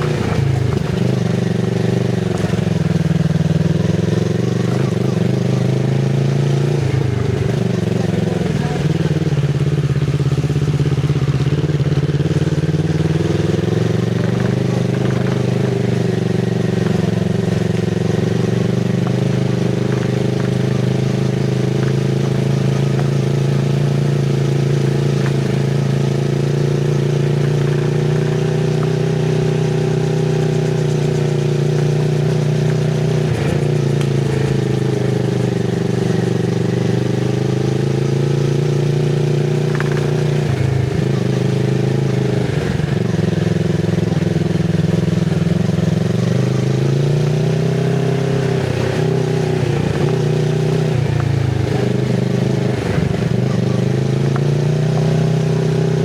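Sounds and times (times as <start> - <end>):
motorcycle engine running at low revs: 0.0 - 56.0.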